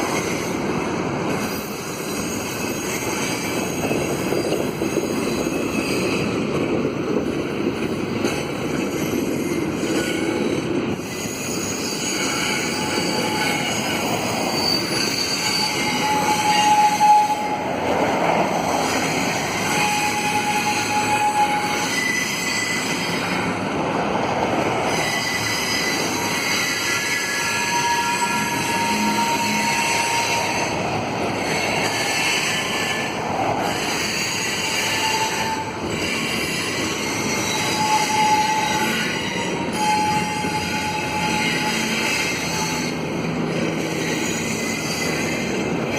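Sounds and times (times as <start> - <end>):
train wheels squealing: 0.0 - 6.8, 7.8 - 23.8, 24.6 - 45.9
train cars rumbling: 0.0 - 45.9.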